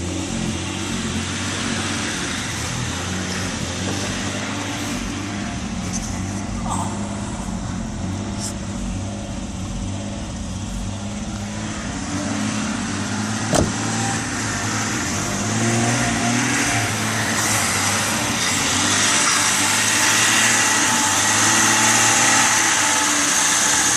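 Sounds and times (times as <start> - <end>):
car engine running: 0.0 - 23.9.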